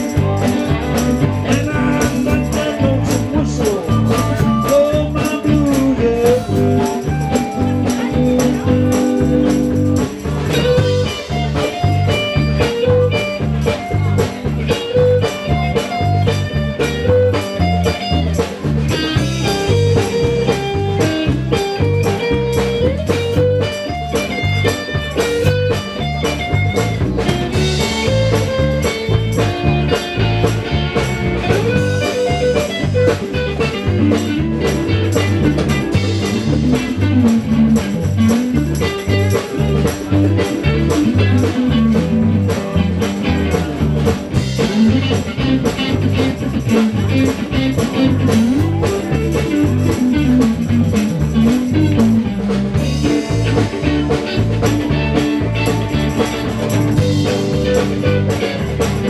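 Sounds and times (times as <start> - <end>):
bass guitar: 0.0 - 59.0
drums: 0.0 - 59.0
electric guitar: 0.0 - 59.0
keyboard: 0.0 - 59.0.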